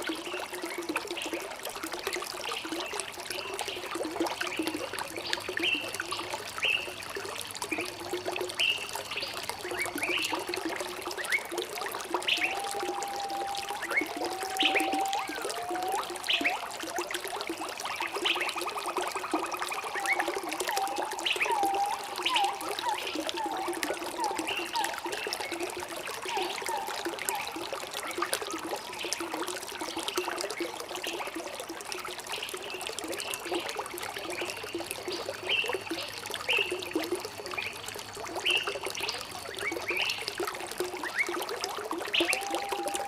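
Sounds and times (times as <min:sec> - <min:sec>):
stream trickling and gurgling: 0:00.0 - 0:43.0.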